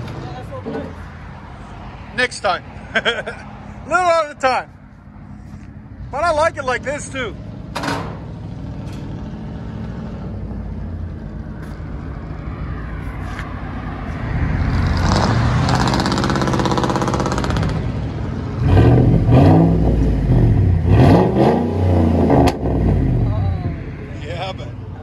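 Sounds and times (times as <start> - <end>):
vee eight engine idling and revving: 0.0 - 25.0.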